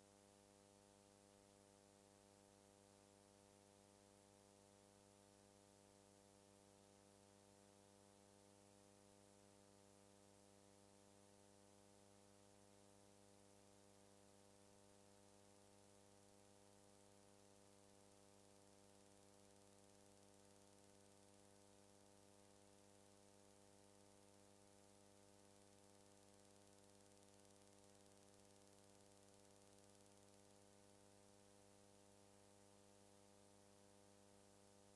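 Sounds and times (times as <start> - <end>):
faint electrical hum with hiss: 0.0 - 34.9.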